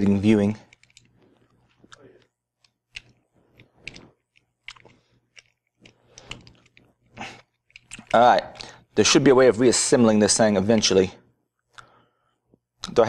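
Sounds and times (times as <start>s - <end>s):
small parts clicking and scraping: 0.0s - 12.0s.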